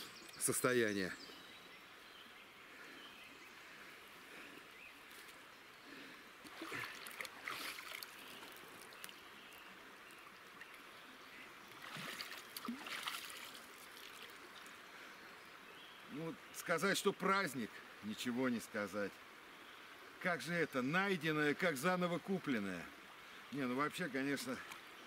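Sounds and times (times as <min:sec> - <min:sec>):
river flowing: 0:01.2 - 0:25.0.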